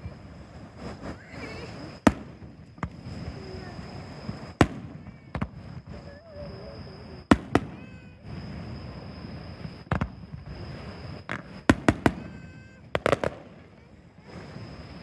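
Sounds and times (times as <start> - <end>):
fireworks bangs: 0.0 - 6.2, 7.2 - 9.0, 9.6 - 14.5.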